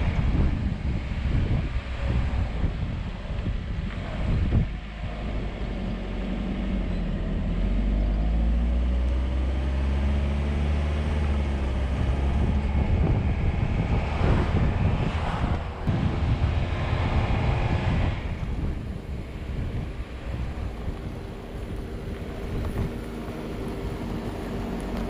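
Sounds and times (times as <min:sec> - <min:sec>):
wind buffeting microphone: 0:00.0 - 0:06.5, 0:10.9 - 0:25.0
car engine: 0:00.0 - 0:25.0
road noise: 0:00.0 - 0:25.0.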